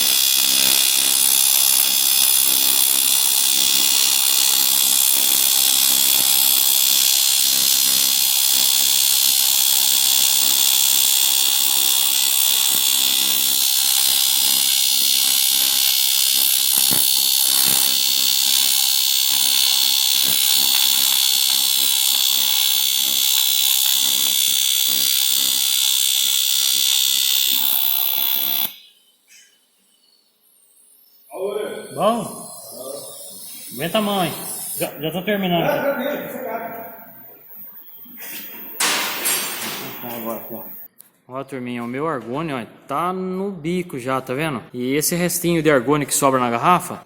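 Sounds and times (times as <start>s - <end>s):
welding arc buzzing: 0.0s - 40.9s.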